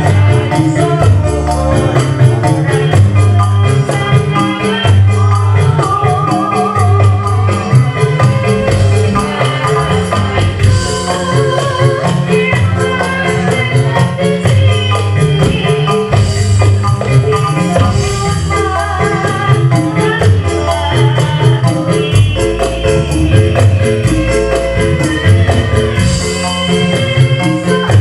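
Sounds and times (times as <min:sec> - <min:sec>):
fast percussion beat: 0:00.0 - 0:28.0
repeating bass notes: 0:00.0 - 0:28.0.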